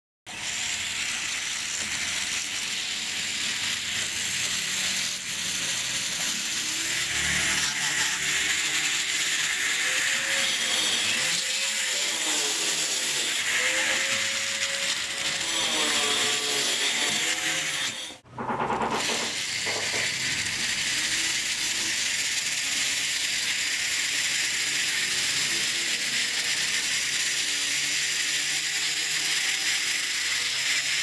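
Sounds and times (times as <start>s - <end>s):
harsh scraping on rusty saw: 0.3s - 31.0s.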